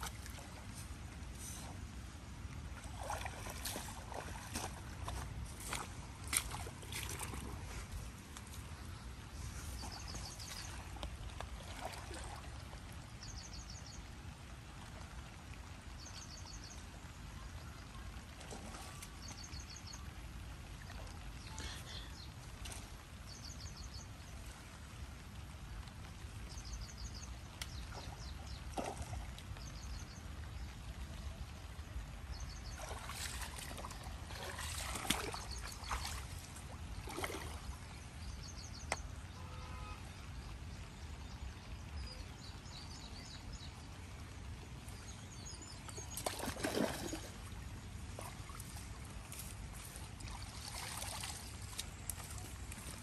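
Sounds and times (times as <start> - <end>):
water splashes: 0.0 - 53.0
water trickling and sloshing: 0.0 - 53.0.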